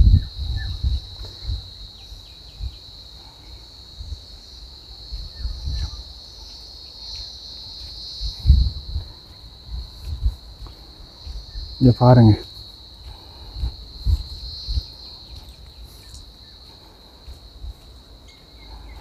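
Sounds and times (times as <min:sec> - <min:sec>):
insect chorus buzzing: 0:00.0 - 0:19.0.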